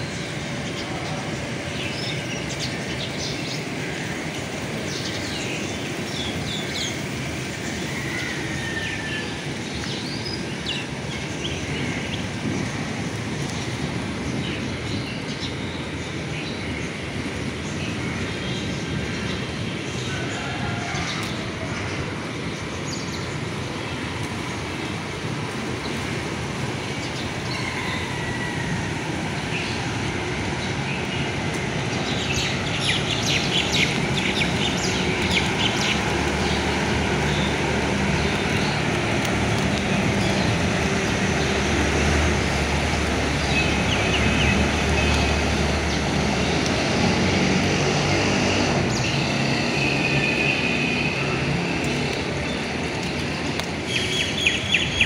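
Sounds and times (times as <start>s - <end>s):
birds chirping: 0.0s - 47.2s, 48.6s - 55.0s
light rain: 0.0s - 55.0s.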